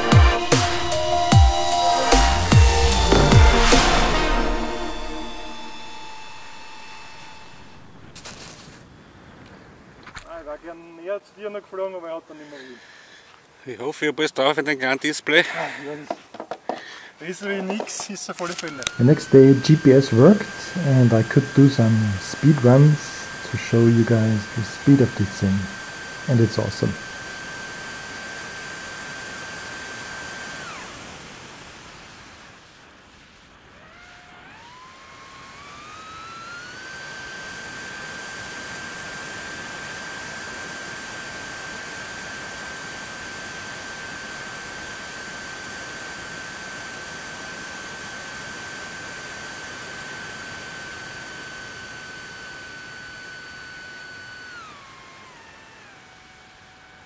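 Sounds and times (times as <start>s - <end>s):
electric motor and propeller whining: 0.0s - 13.6s, 14.5s - 57.0s.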